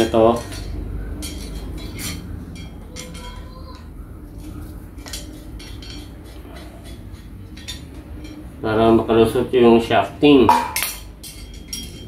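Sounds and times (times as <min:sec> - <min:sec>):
light metallic clinks and taps: 0:00.0 - 0:08.6, 0:10.5 - 0:12.0.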